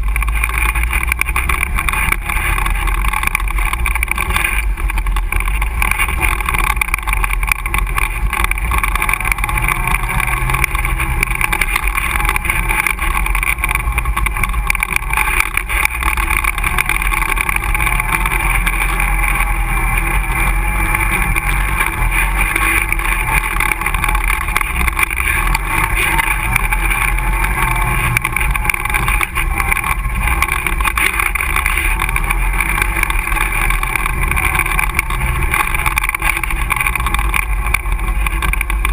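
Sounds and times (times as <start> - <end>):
quad engine running: 0.0 - 38.9.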